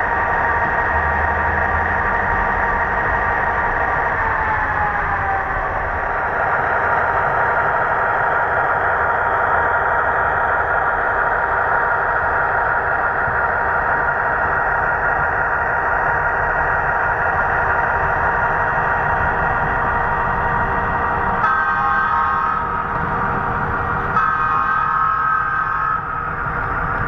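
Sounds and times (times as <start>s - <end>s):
model diesel engine sound: 0.0s - 27.0s.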